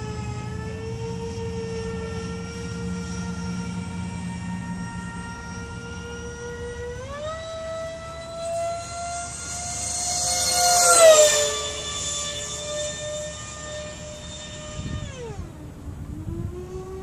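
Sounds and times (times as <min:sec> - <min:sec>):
electric ducted fans whining: 0:00.0 - 0:17.0
jet fly-by air rush: 0:00.0 - 0:17.0.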